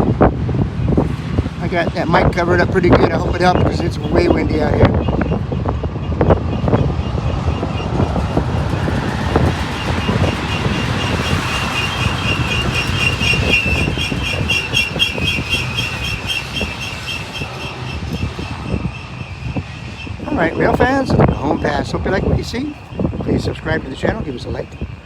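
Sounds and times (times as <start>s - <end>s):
freight train wheels rumbling: 0.0s - 25.0s
wind noise: 0.0s - 25.0s
high-pitched pulsing squeal: 1.6s - 25.0s.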